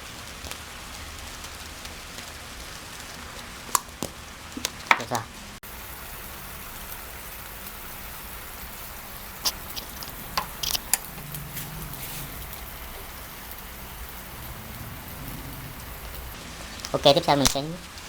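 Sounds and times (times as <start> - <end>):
chicken sizzling in a frying pan: 0.0 - 18.0.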